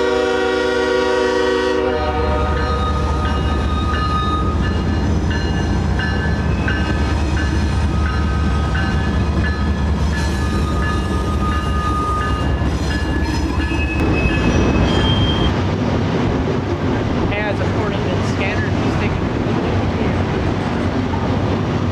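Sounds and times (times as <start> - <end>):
train rumbling past: 0.0 - 21.9.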